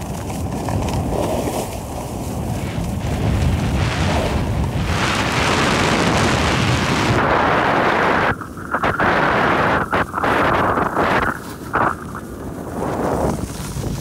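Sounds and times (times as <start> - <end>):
snowboards scraping on snow: 0.0 - 14.0
wind rushing over microphone: 0.0 - 14.0.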